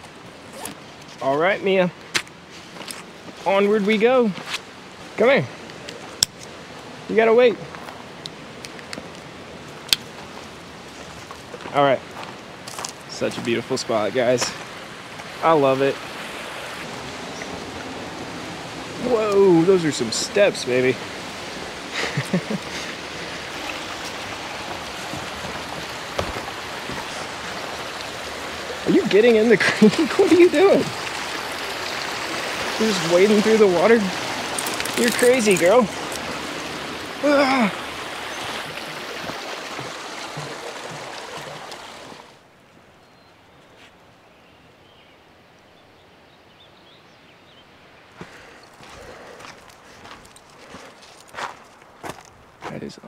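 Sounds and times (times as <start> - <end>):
creek water running over rocks: 0.0 - 42.9, 47.7 - 53.0.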